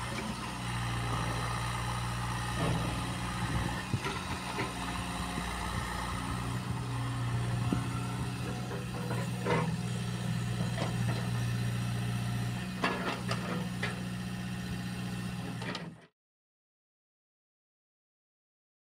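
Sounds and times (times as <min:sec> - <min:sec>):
excavator diesel engine running: 0:00.0 - 0:16.1.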